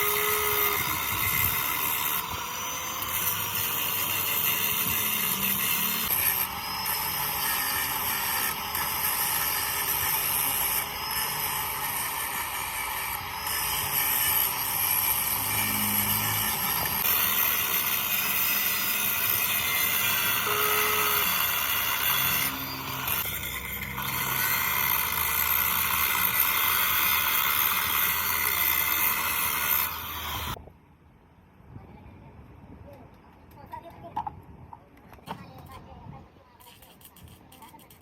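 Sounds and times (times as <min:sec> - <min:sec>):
hissing metalworking noise: 0:00.0 - 0:30.6.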